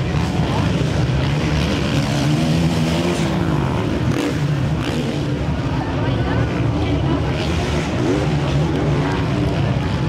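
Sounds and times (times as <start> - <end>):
motorbike engines revving: 0.0 - 10.0.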